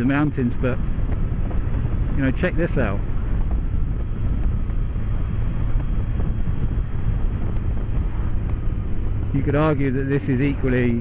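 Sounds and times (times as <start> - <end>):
motorcycle engine running: 0.0 - 11.0
wind rush: 0.0 - 11.0.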